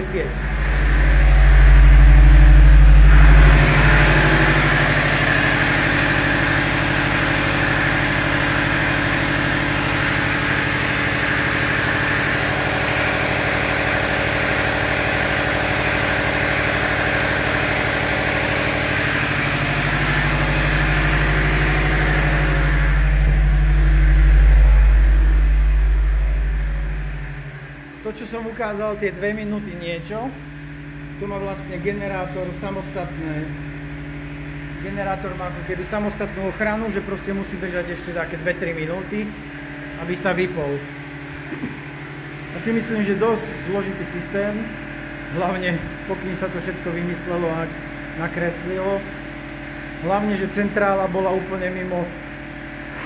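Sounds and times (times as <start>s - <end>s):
generator engine running: 0.0s - 53.0s.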